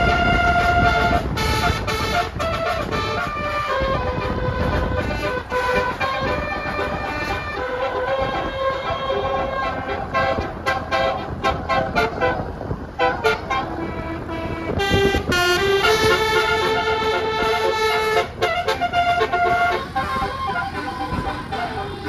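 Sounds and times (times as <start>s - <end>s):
bus multi-tone horn playing tune: 0.0s - 22.0s.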